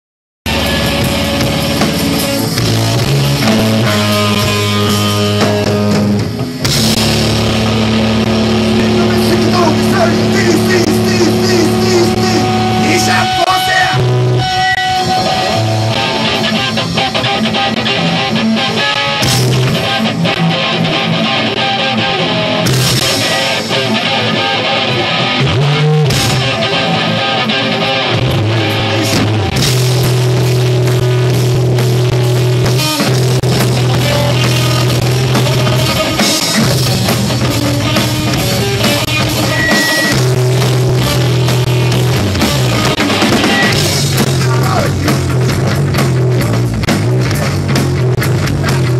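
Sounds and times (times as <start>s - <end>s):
bass guitar: 0.4s - 48.9s
drum kit: 0.4s - 48.9s
electric guitar: 0.5s - 48.9s.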